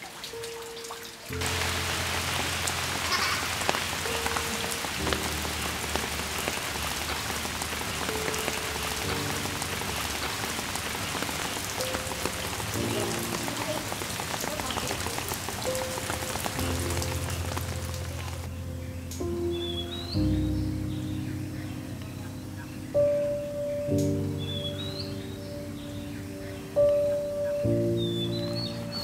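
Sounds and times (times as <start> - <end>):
rain falling: 0.0 - 29.0
slow background music: 0.0 - 29.0.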